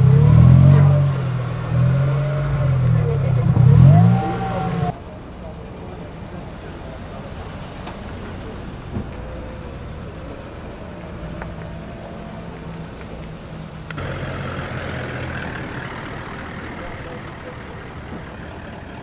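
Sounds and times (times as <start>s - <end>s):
car engine driving slowly past: 0.0s - 19.0s
pickup engine pulling by: 0.0s - 19.0s.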